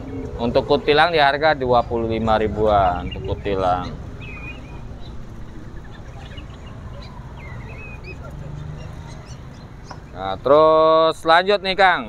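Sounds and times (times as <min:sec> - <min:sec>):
busy market background noise: 0:00.0 - 0:10.6
songbirds chirping: 0:00.0 - 0:12.0.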